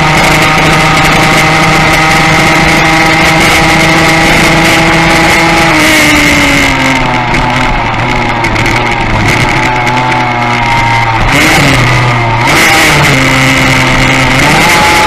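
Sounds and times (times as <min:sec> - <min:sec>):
racing motorcycle engine high revs: 0:00.0 - 0:15.0
rush of wind: 0:00.0 - 0:15.0.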